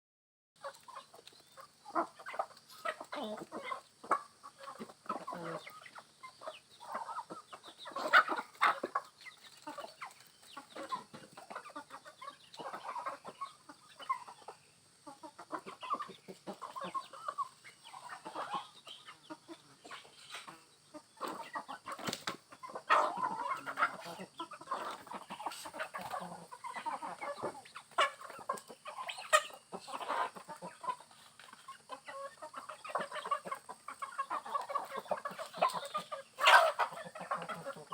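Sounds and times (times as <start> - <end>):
chickens clucking: 0.6 - 37.9.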